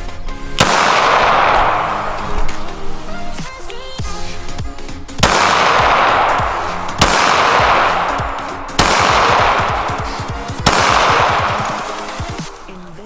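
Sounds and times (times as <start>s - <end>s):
background music: 0.0s - 13.0s
pistol shots with echo: 0.0s - 13.0s.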